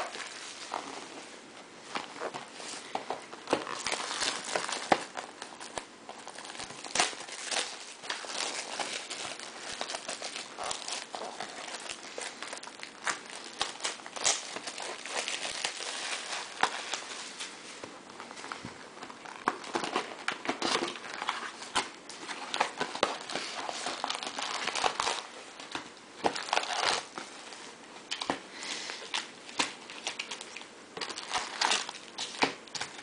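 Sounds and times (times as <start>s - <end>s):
foil packs crinkling: 0.0s - 0.9s, 1.9s - 17.6s, 18.2s - 33.0s.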